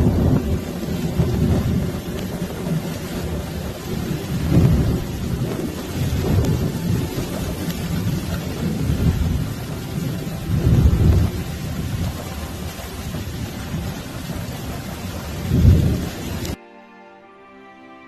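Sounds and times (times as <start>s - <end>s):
heavy rain falling: 0.0s - 16.6s
thunder rumbling: 0.0s - 16.6s.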